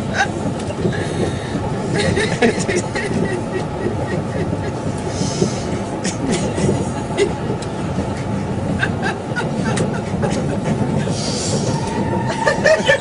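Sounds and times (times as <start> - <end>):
train rumble: 0.0 - 13.0
wheels clicking on track: 0.0 - 13.0.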